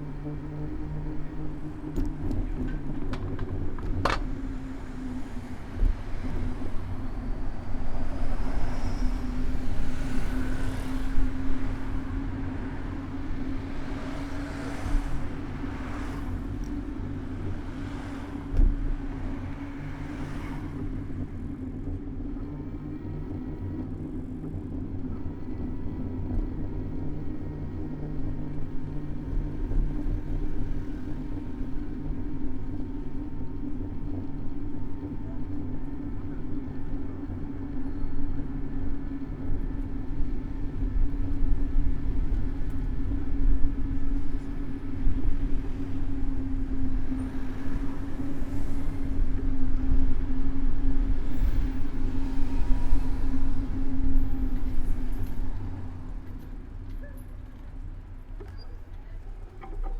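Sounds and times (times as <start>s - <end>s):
vehicles passing with whooshes: 0.0s - 58.5s
low traffic drone: 0.0s - 59.9s.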